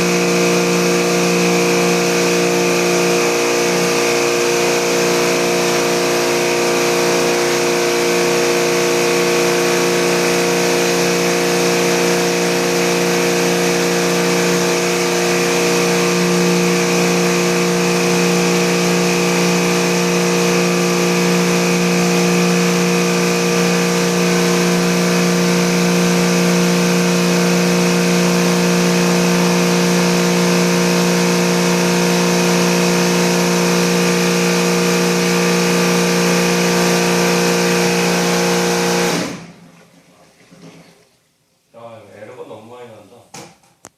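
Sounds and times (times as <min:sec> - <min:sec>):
cleaning machine motor humming: 0:00.0 - 0:39.8.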